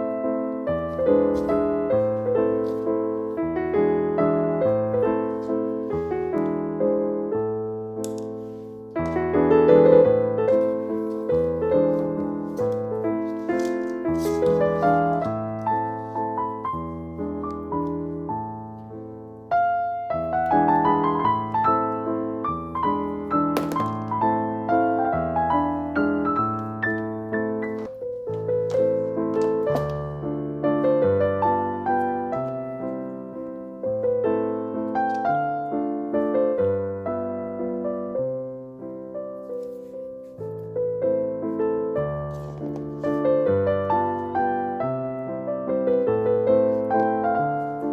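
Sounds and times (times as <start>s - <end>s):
piano music: 0.0s - 47.9s.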